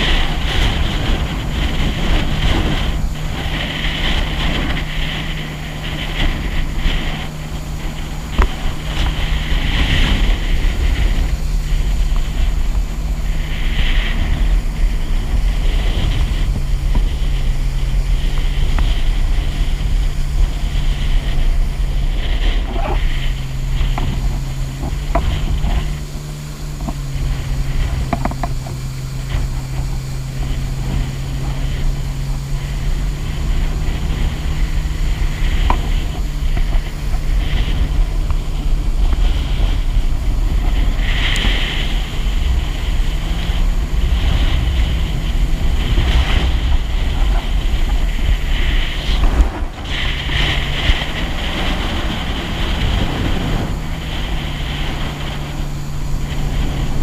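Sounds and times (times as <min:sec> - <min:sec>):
jet ski engine drone: 0:00.0 - 0:57.0
wind and water spray hiss: 0:00.0 - 0:57.0.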